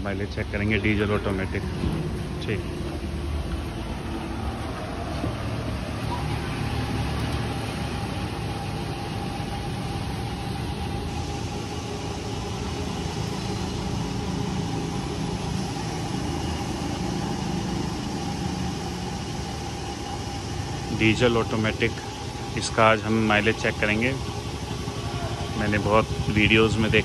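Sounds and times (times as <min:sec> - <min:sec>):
fuel pump humming: 0:00.0 - 0:27.0
mid-pitched whine: 0:00.0 - 0:27.0.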